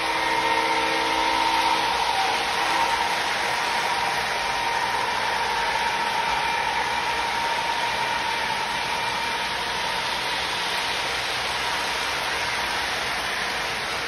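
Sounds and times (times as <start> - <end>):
model train motors whirring: 0.0 - 14.0
thin steady whine: 0.0 - 14.0.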